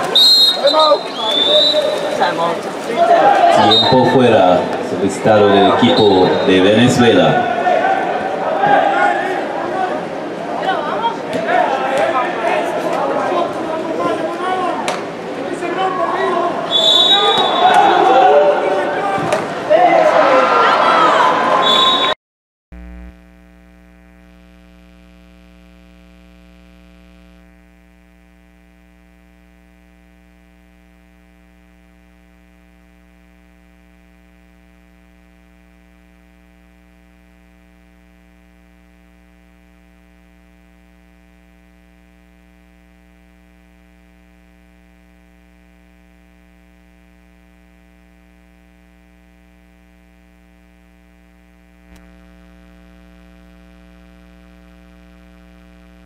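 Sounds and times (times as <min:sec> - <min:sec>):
steady electrical hum: 0:00.0 - 0:20.3, 0:22.8 - 0:56.0.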